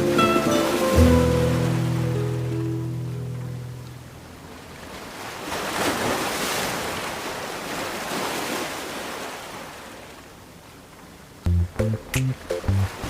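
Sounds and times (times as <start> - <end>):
ocean wave washing: 0.0 - 10.0, 11.8 - 13.0.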